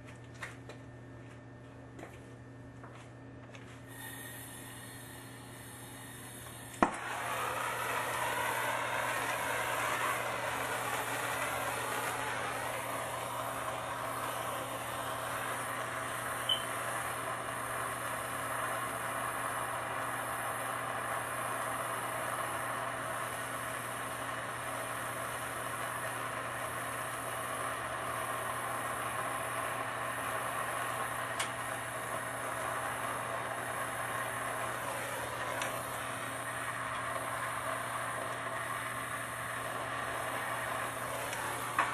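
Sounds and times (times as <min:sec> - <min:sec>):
gas torch hissing: 0:03.9 - 0:41.9.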